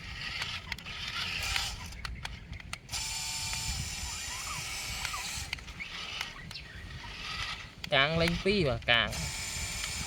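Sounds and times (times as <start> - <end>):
toy truck clicks and rattling: 0.0 - 10.0.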